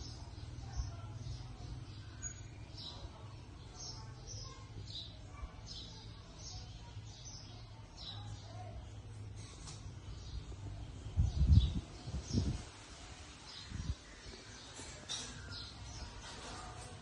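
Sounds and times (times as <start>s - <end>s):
small bird chirping: 0.0s - 16.5s.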